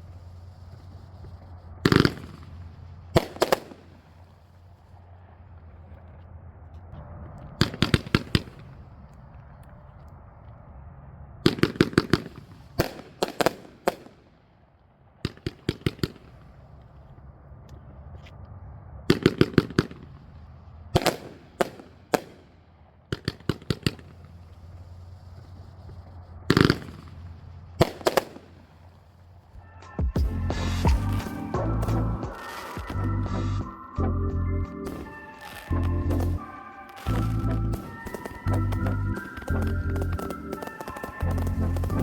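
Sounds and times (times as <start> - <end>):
firework volleys of sharp bangs: 0.0 - 9.5, 10.2 - 18.2, 18.8 - 29.6, 30.3 - 34.0, 34.8 - 42.0.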